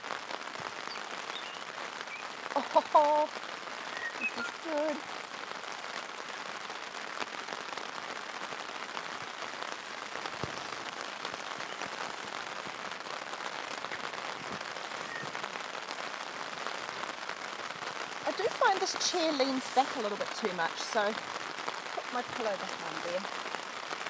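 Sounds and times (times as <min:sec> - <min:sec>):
heavy rain pattering on a tarp: 0:00.0 - 0:24.0.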